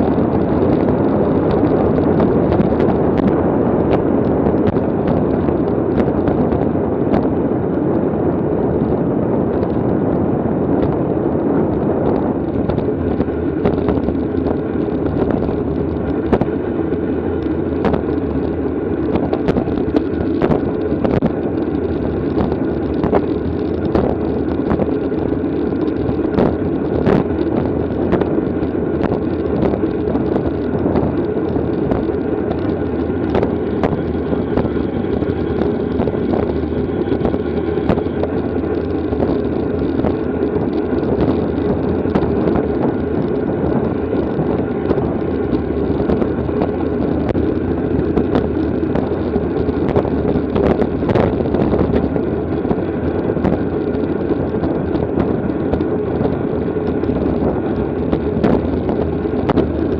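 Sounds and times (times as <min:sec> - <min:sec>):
small clicks and ticks: 0:00.0 - 0:08.0, 0:08.8 - 0:10.0, 0:11.7 - 0:59.9
wind rush over microphone: 0:00.0 - 0:59.9.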